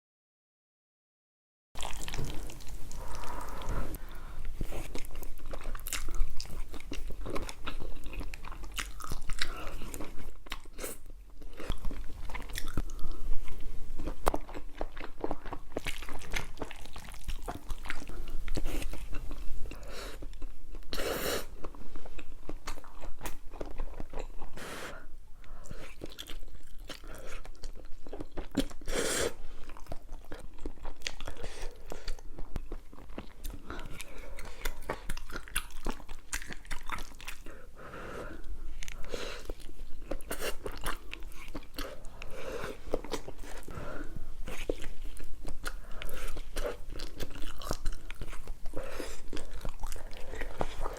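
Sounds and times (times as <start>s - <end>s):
person chewing noodles: 1.8s - 50.9s.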